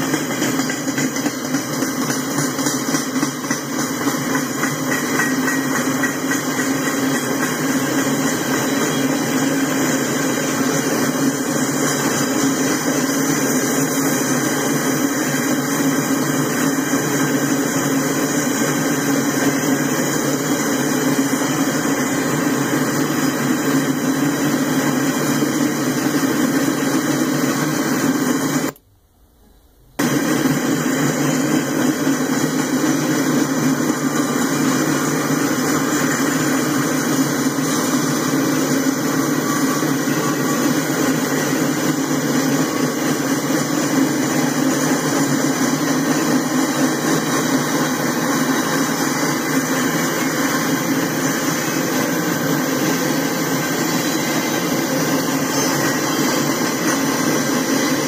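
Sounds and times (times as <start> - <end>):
freight train wheels rumbling: 0.0 - 28.8, 30.0 - 58.0.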